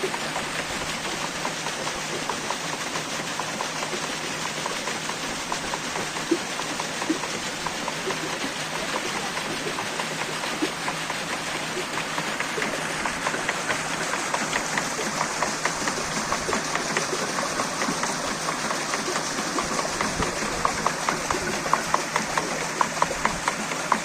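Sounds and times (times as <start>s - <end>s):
rushing water: 0.0s - 24.0s
water mill clattering: 0.0s - 24.0s.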